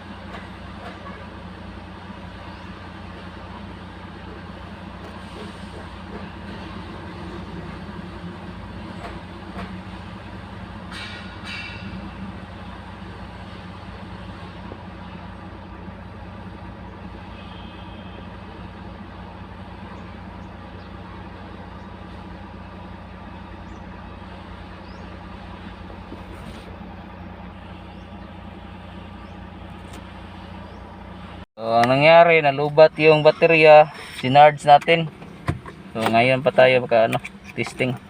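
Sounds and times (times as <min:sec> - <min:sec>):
engine idling hum: 0:00.0 - 0:38.0.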